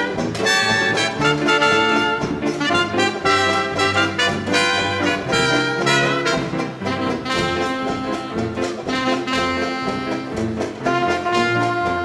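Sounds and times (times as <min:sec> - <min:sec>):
hot jazz dance band playing: 0:00.0 - 0:12.0.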